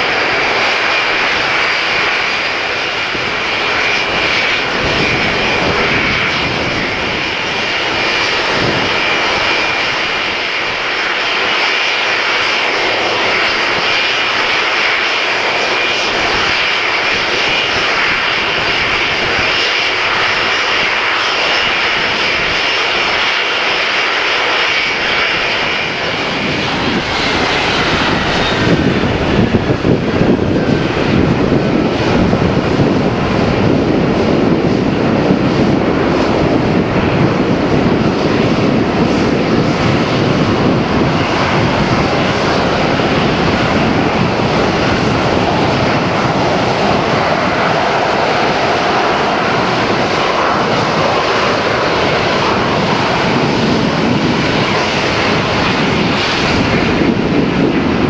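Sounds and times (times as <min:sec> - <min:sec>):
high engine whine: 0:00.0 - 0:58.0
jet engine rush: 0:00.0 - 0:58.0.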